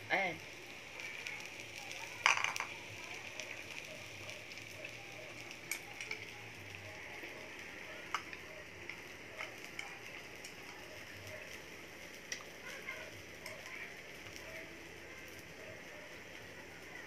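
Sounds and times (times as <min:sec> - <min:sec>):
food sizzling on a grill pan: 0:00.0 - 0:17.0.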